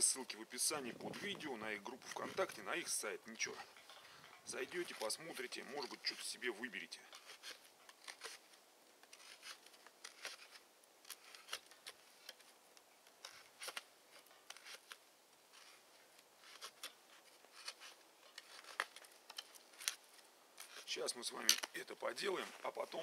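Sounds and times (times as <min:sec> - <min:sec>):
knife cutting frozen branch: 0:00.0 - 0:03.7, 0:04.5 - 0:23.0.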